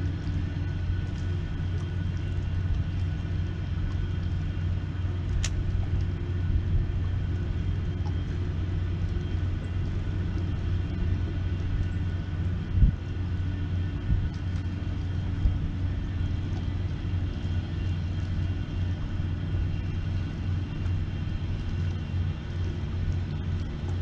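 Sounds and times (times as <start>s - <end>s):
diesel machinery rumble: 0.0s - 24.0s
faint steady whine: 0.0s - 24.0s.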